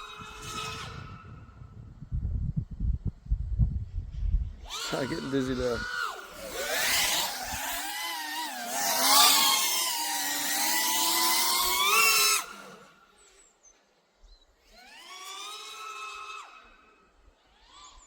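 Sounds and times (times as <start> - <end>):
drone motors whining: 0.0 - 1.9, 4.5 - 13.6, 14.2 - 18.0.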